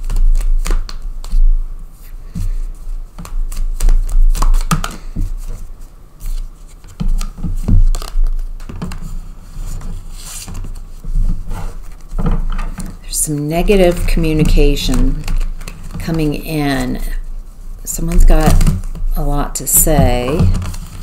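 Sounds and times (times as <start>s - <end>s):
cards being shuffled: 0.0s - 13.0s, 13.6s - 21.0s.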